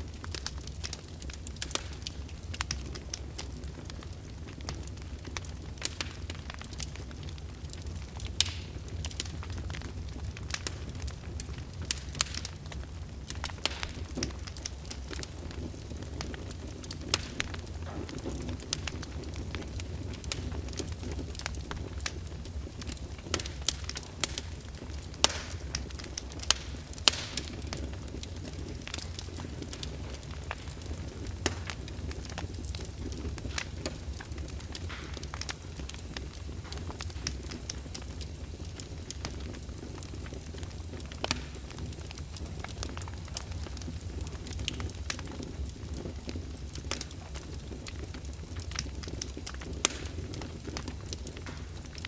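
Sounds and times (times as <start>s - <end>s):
fire crackling and popping: 0.0s - 52.0s
low rumble of fire: 0.0s - 52.0s.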